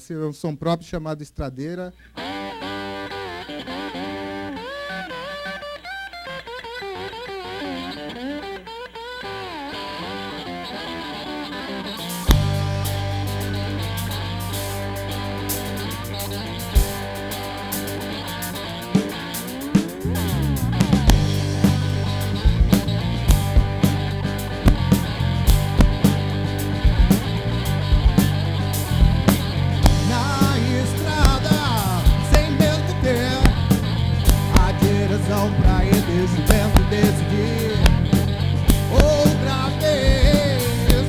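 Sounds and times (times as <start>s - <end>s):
blues rock band playing: 2.2s - 41.0s
electric guitar bent notes: 2.2s - 41.0s.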